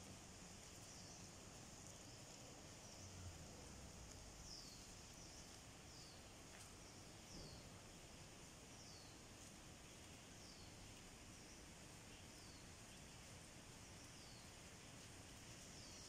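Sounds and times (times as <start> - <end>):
faint high hiss: 0.0 - 16.0.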